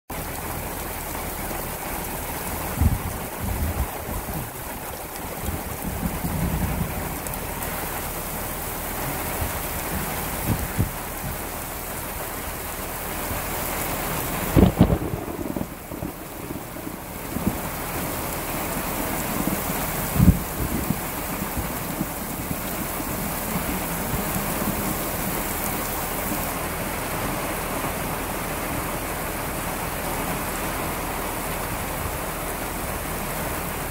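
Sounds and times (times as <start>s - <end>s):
heavy rain hissing: 0.1s - 33.9s.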